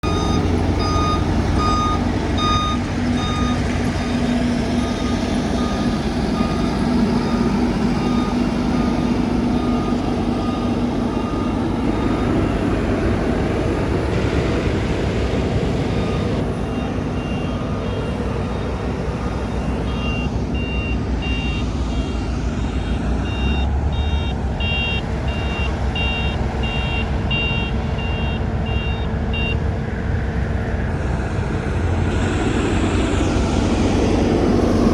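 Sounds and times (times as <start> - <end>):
high-pitched reversing alarm beeping: 0.0 - 29.6
low-pitched reversing alarm beeping: 0.0 - 29.6
heavy construction vehicles running: 0.0 - 34.9.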